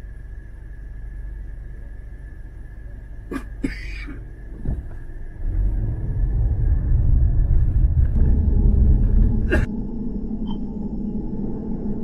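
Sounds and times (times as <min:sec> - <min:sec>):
street traffic rumble: 0:00.0 - 0:09.8.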